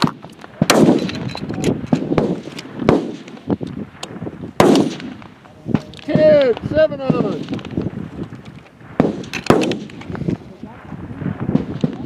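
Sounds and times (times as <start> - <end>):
rifle shots with rolling echo: 0.0 - 12.0.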